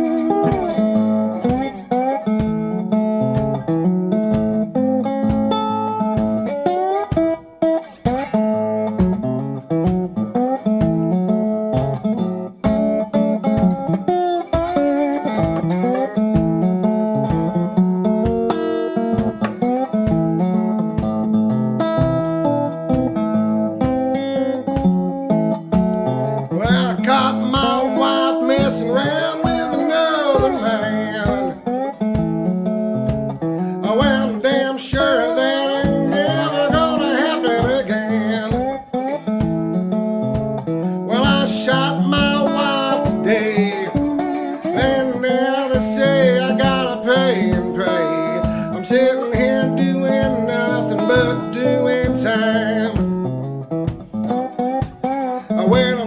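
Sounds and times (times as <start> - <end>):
strummed acoustic guitar: 0.0 - 56.0
wavering guitar lead line: 0.0 - 56.0.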